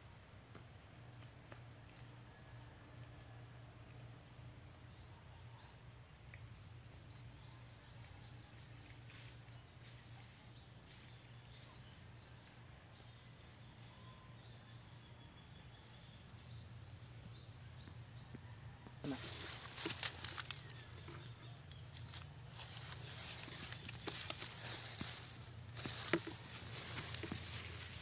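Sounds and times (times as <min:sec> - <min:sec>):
low steady hum: 0:00.0 - 0:28.0
faint birds chirping: 0:00.2 - 0:28.0.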